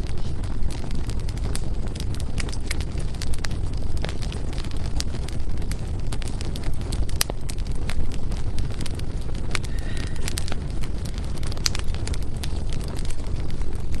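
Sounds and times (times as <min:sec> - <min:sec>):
low rush of flames: 0:00.0 - 0:14.0
wood fire crackling and popping: 0:00.0 - 0:14.0.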